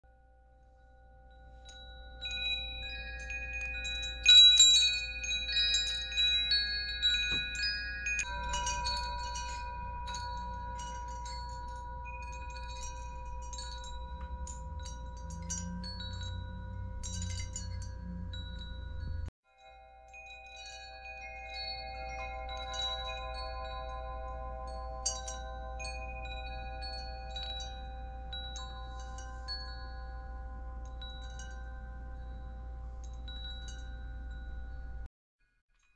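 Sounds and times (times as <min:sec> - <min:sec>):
metal tube wind chimes ringing: 0:00.1 - 0:35.9.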